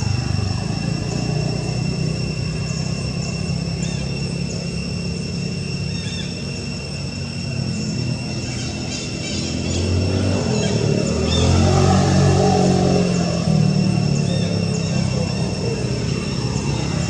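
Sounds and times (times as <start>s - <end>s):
faint chirps: 0.0s - 17.0s
steady high-pitched whine: 0.0s - 17.0s
vehicle engine running: 0.0s - 17.0s.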